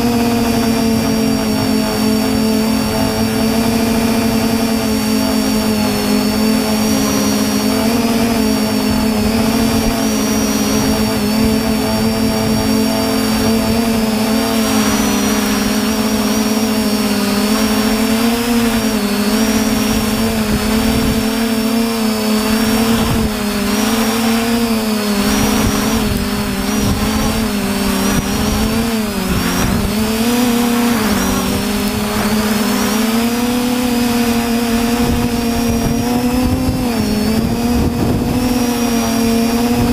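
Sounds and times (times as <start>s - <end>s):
quadcopter motors buzzing: 0.0s - 39.9s
wind on microphone: 0.0s - 39.9s.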